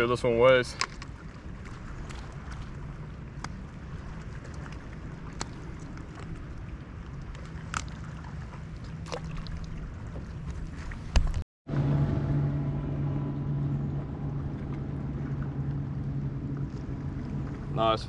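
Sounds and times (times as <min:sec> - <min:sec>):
choppy water: 0:00.0 - 0:18.0
wind rumble: 0:00.0 - 0:18.0.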